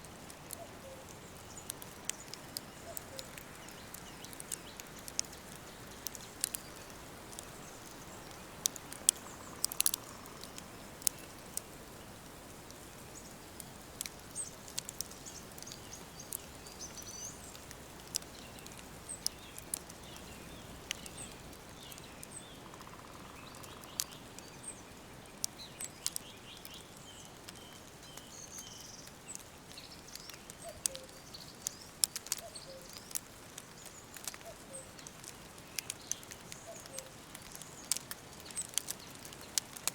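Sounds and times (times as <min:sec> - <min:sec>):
sharp clicks and crackles: 0:00.0 - 0:39.9
steady soft hiss: 0:00.0 - 0:39.9.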